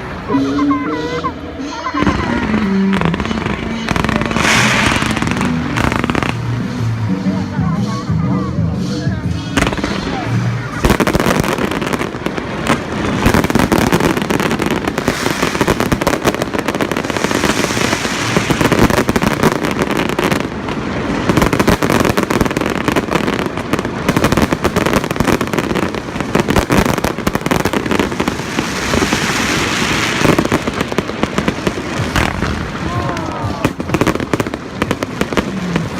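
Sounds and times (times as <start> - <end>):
fireworks bangs and crackling: 0.0 - 35.9.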